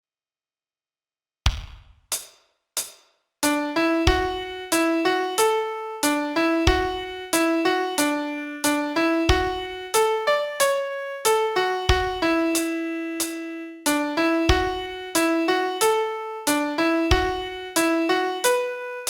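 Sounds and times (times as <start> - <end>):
piano melody over chords: 3.4 - 19.0.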